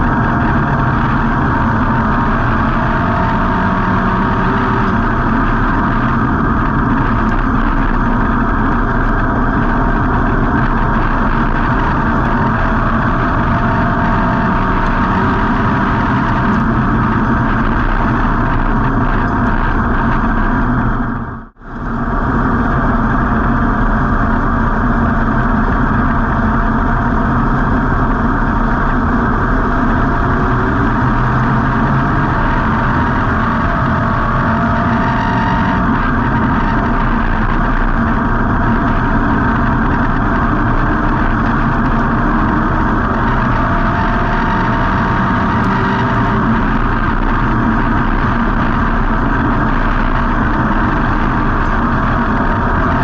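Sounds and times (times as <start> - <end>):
race car engine running: 0.0 - 53.0.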